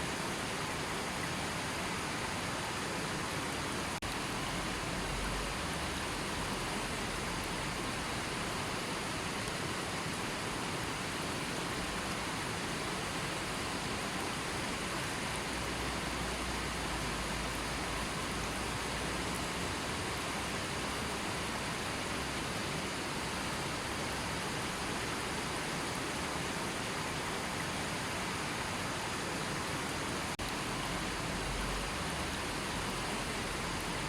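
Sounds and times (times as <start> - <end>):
river water flowing over rocks: 0.0 - 34.0.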